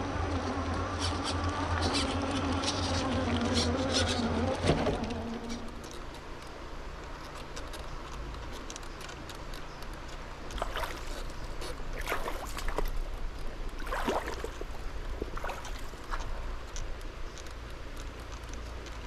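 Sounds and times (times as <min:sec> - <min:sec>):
river water sloshing and trickling: 0:00.2 - 0:19.0
crackly splashes: 0:01.6 - 0:19.0.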